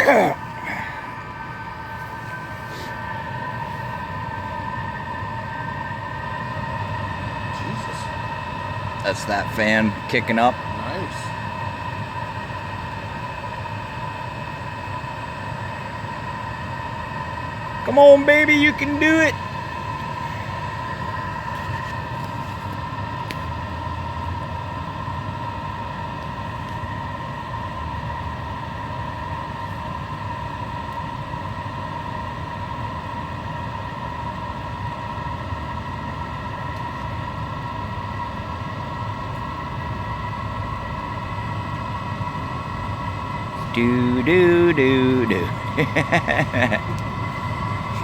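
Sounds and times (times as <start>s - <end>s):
heater blower fan whine: 0.0s - 48.0s
low combustion rumble: 0.0s - 48.0s.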